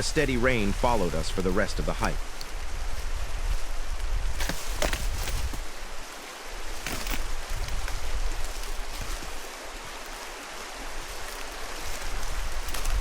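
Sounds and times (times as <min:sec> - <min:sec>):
rain: 0:00.0 - 0:13.0
river rushing: 0:00.0 - 0:13.0
wind buffeting microphone: 0:00.0 - 0:13.0.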